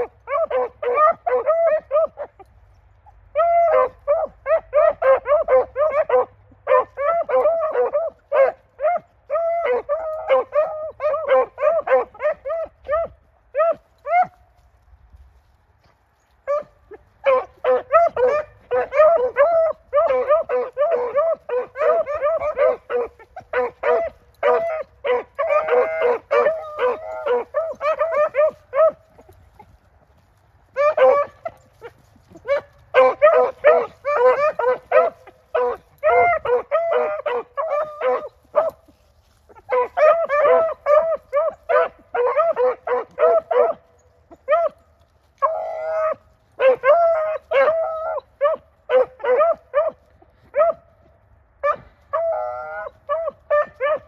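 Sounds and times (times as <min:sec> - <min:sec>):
hounds barking: 0:00.0 - 0:02.5, 0:03.3 - 0:14.4, 0:16.4 - 0:29.8, 0:30.7 - 0:44.8, 0:45.4 - 0:51.0, 0:51.6 - 0:54.0.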